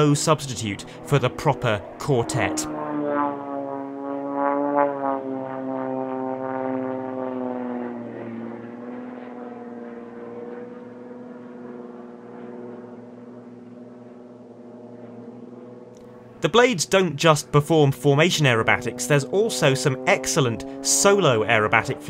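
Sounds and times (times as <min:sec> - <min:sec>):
propeller aircraft droning overhead: 0:00.0 - 0:22.0.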